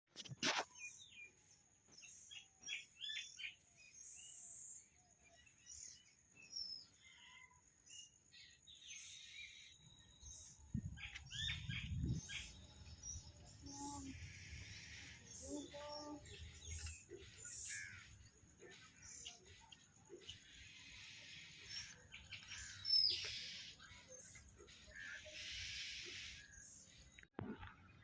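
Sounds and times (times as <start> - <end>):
birds chirping: 0.6 - 28.0.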